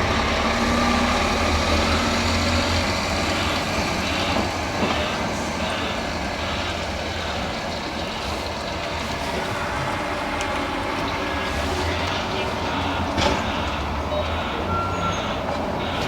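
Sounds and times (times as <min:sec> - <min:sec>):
diesel engine running: 0:00.0 - 0:16.0
reversing beeper: 0:00.1 - 0:08.4, 0:09.4 - 0:16.0.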